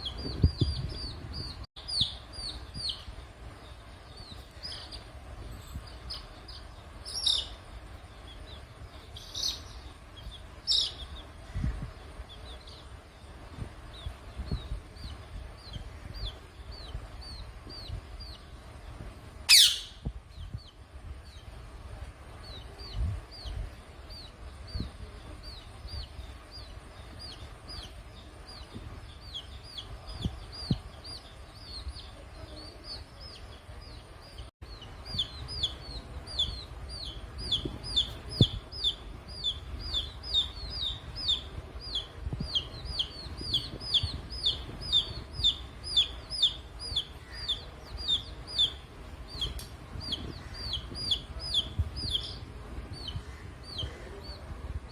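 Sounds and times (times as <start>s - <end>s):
chicks peeping: 0.0s - 19.0s, 22.4s - 54.8s.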